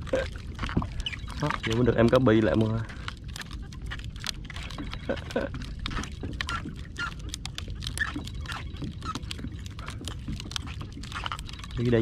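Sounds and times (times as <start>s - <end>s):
waves slapping against kayak hull: 0.0s - 12.0s
wind rumble on microphone: 0.0s - 12.0s.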